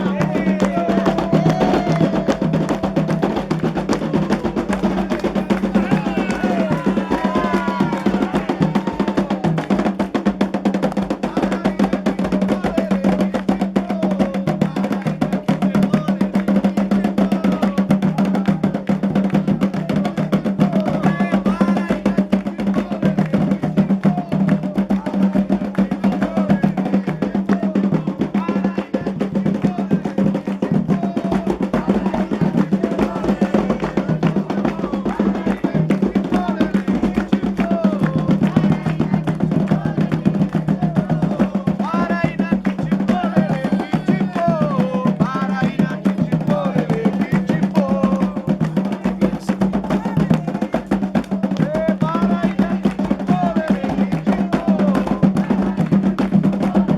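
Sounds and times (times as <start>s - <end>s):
hand drums beaten fast: 0.0s - 56.9s
voices singing: 0.0s - 56.9s.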